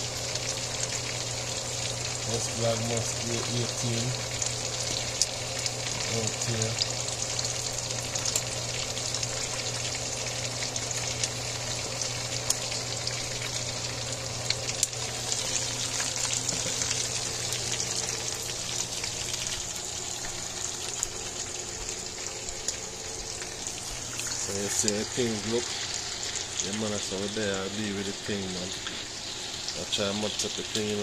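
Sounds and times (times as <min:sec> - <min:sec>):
chicken sizzling in oil: 0:00.0 - 0:31.0
low steady hum: 0:00.0 - 0:31.0.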